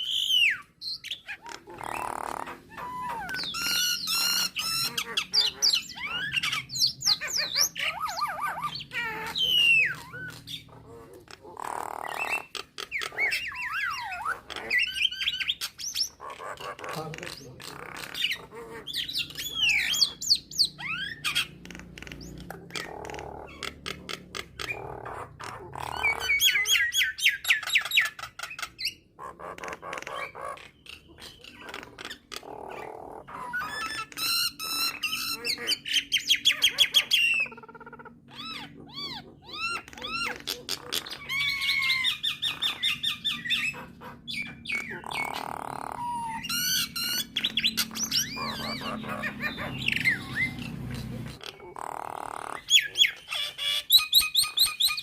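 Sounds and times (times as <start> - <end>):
starling singing: 0.0 - 55.0.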